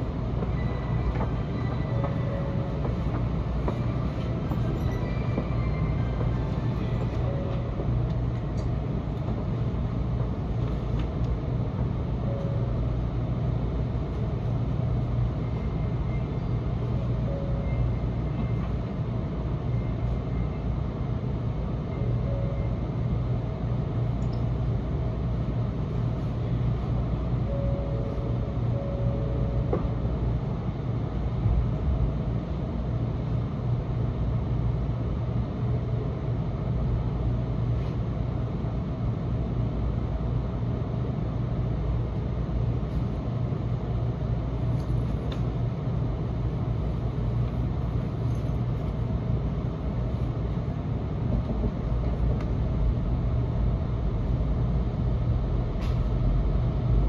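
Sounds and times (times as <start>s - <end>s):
train interior low hum: 0.0s - 57.0s.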